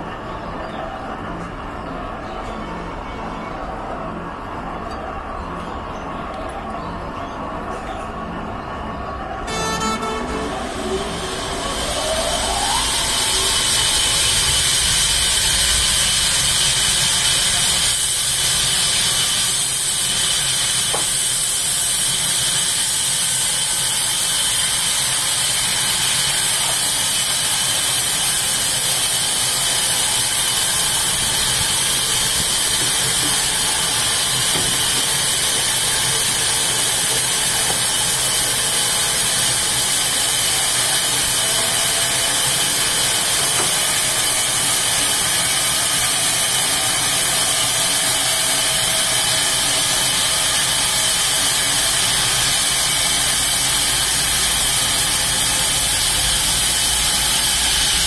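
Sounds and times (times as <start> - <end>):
band saw cutting log: 9.5 - 58.0.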